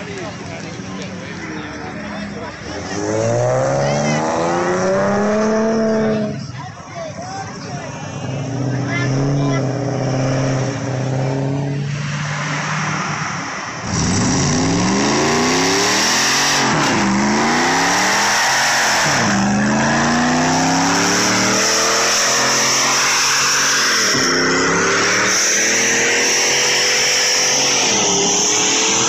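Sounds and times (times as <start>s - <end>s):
car engine revving: 0.0s - 6.5s, 7.3s - 29.0s.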